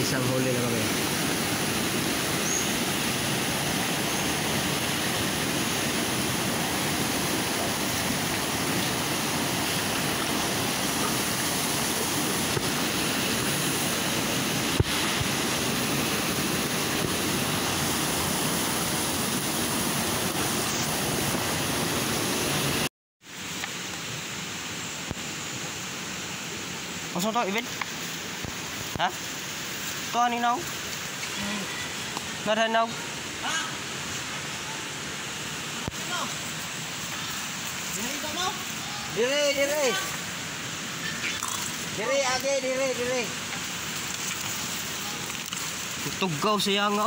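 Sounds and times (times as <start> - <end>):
steady hiss: 0.0 - 47.0
stream rushing over rocks: 0.0 - 47.0.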